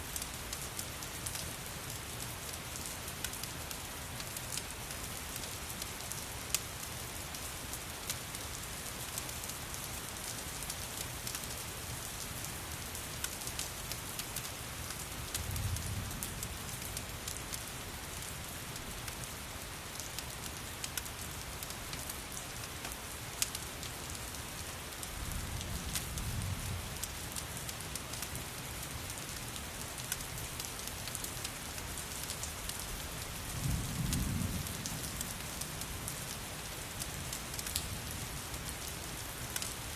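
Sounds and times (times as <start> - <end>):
steady rain: 0.0 - 39.9
wood fire crackling: 0.1 - 11.6, 12.8 - 26.2, 27.0 - 39.9.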